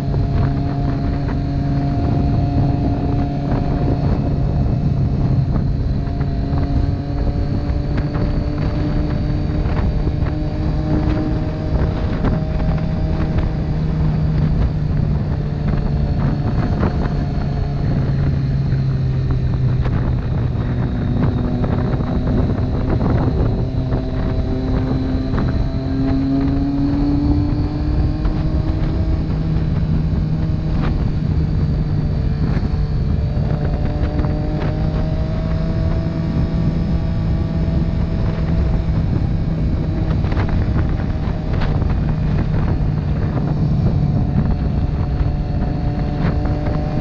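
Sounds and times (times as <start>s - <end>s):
motorcycle engine running: 0.0s - 47.0s
wind noise on microphone: 0.0s - 47.0s.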